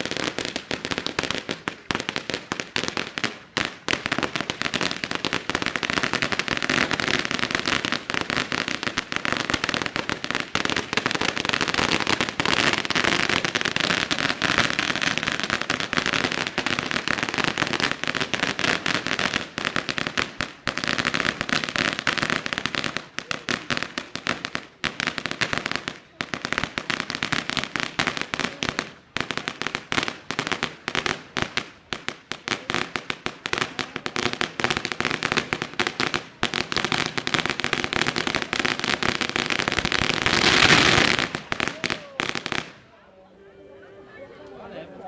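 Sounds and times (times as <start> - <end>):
firecrackers popping: 0.0 - 43.0.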